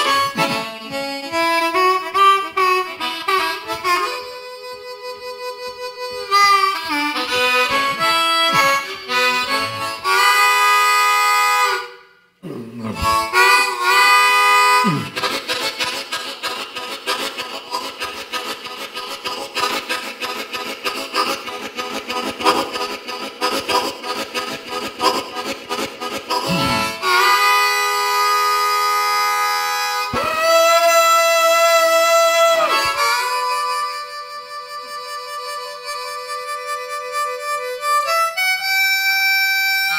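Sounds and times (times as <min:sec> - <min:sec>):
blues harmonica imitating a train: 0:00.0 - 0:39.9.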